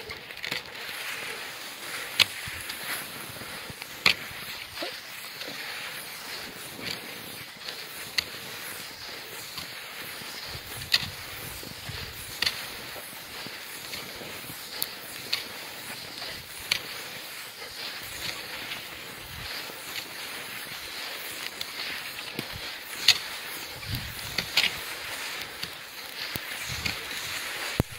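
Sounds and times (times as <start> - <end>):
footsteps crunching on snow: 0.0 - 27.9
steady hiss: 0.4 - 27.9.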